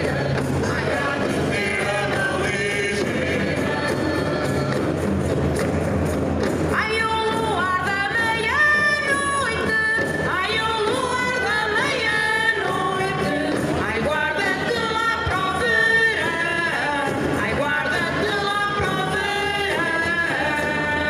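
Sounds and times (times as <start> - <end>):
group singing folk song: 0.0 - 5.8, 7.1 - 21.0.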